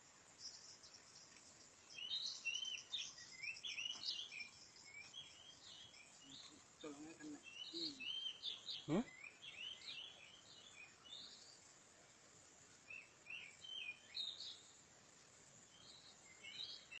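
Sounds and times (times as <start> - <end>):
faint bird chirps: 0.0 - 17.0
low outdoor hiss: 0.0 - 17.0.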